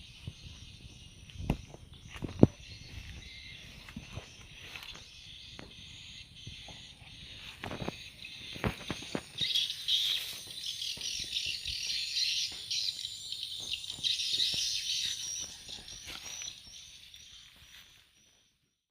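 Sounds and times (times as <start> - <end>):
high-pitched wildlife chirping: 0.0 - 18.7.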